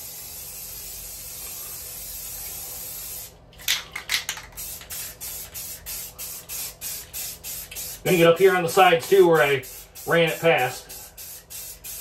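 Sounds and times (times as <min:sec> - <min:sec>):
aerosol can spraying: 0:00.0 - 0:03.3, 0:04.4 - 0:12.0.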